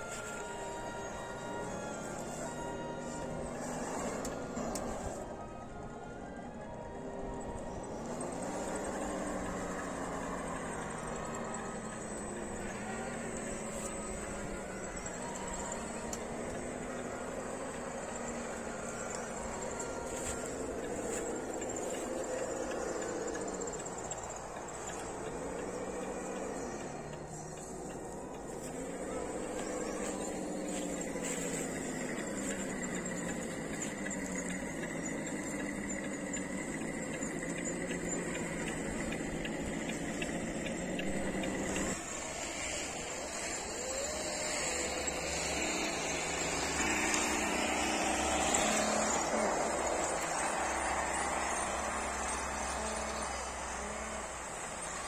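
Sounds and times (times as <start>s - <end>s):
toy truck motors whirring: 0.0s - 55.0s.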